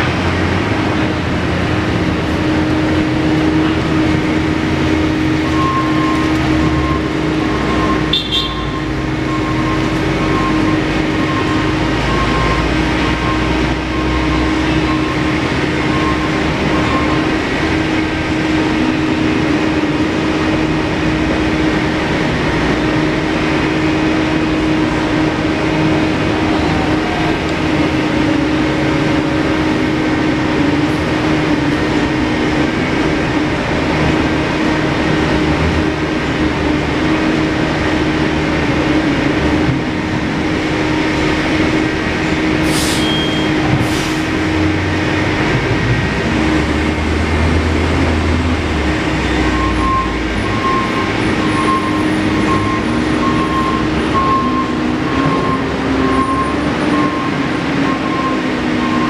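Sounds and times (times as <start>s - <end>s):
city street rumble and hum: 0.0s - 59.0s.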